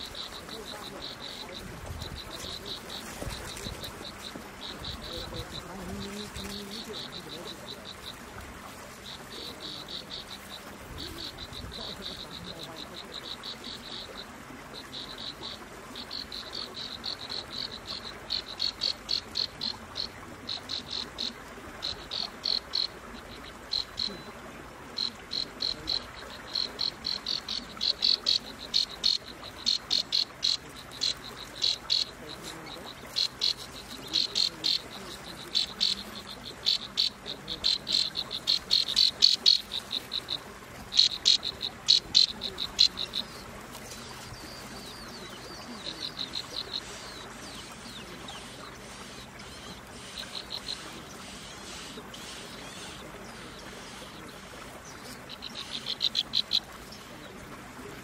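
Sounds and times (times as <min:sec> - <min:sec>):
insect chirping: 0:00.0 - 0:24.3, 0:25.0 - 0:47.4, 0:55.3 - 0:56.8.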